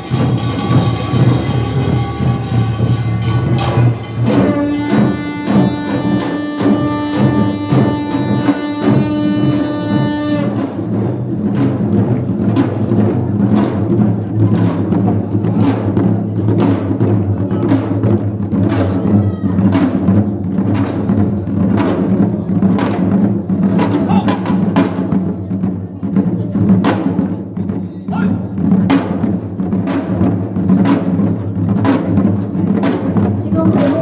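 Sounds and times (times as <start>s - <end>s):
drums and gongs beating: 0.0s - 34.0s.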